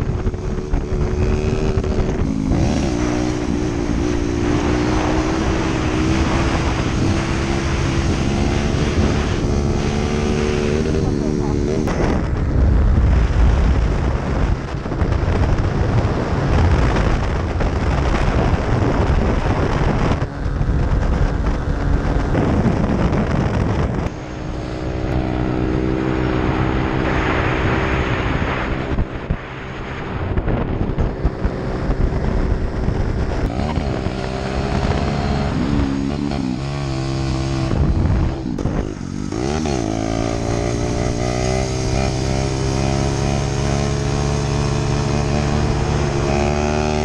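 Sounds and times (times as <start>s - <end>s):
wind rush on microphone: 0.0s - 47.0s.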